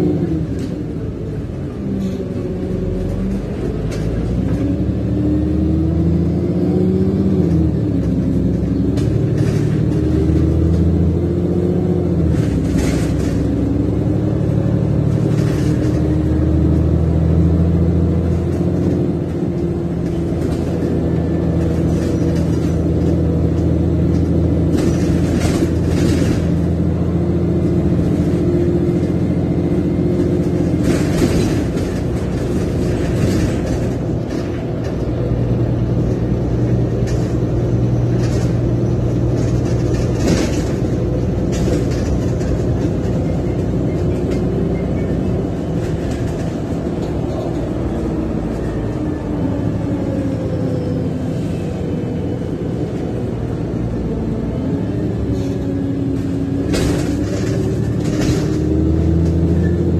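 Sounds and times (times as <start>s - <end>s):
bus engine: 0.0s - 59.9s.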